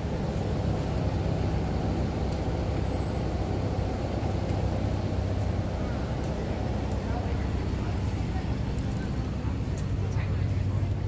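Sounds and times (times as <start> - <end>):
street traffic: 0.0 - 11.0
vehicle engine idling: 0.0 - 11.0.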